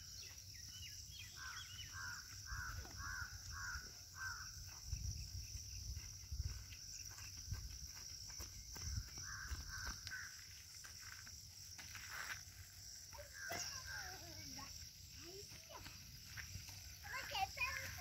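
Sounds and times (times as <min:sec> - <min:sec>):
high drone of insects: 0:00.0 - 0:18.0.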